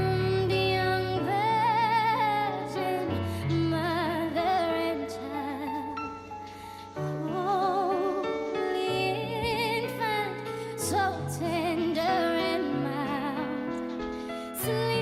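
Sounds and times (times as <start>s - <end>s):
woman singing: 0.0s - 6.2s, 7.0s - 15.0s.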